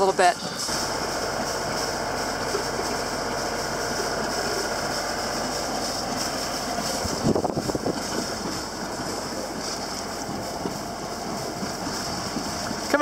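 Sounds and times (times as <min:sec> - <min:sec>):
diesel boat engine running: 0:00.0 - 0:13.0
wind and water rushing: 0:00.0 - 0:13.0.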